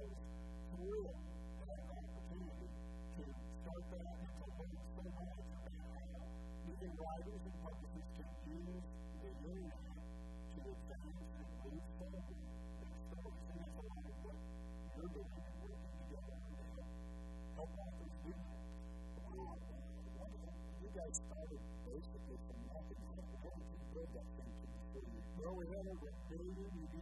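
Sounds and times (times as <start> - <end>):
electrical mains hum: 0.0 - 27.0
muffled man's voice: 0.0 - 27.0.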